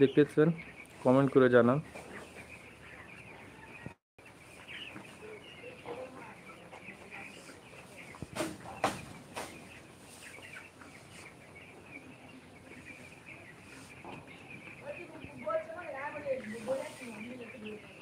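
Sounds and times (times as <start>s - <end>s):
chicks peeping and chirping: 0.0s - 18.0s.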